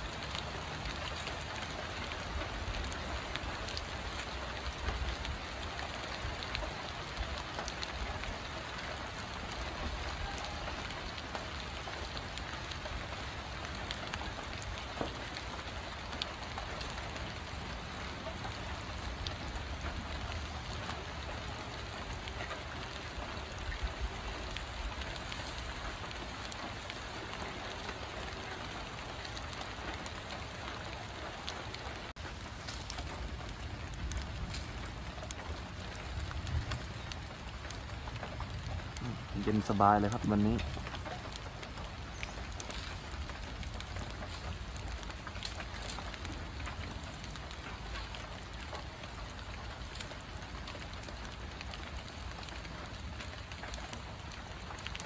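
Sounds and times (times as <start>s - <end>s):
light rain falling: 0.0s - 55.0s
raindrop ticks: 0.0s - 55.0s.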